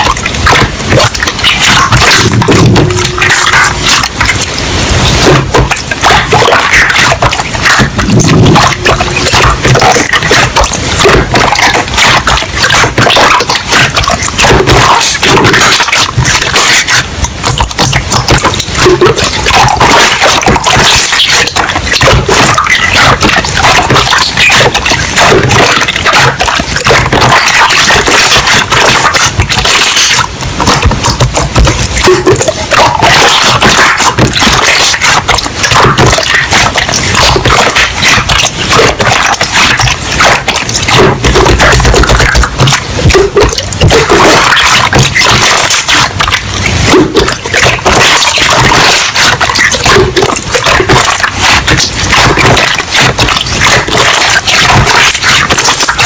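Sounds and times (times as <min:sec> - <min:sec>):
slime crackling and popping: 0:00.0 - 0:56.0.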